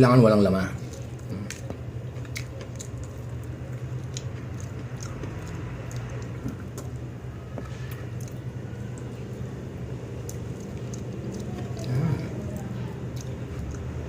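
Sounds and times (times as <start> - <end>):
steady low hum: 0.0 - 14.0
chewing and mouth clicks: 0.8 - 14.0.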